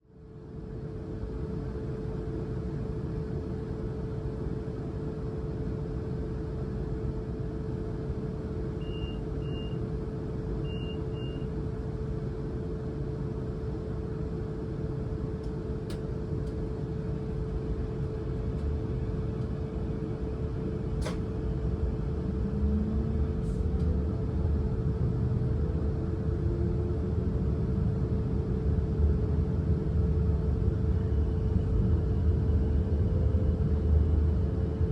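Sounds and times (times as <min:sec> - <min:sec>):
train electrical hum: 0:00.1 - 0:34.9
low train rumble: 0:00.2 - 0:34.9.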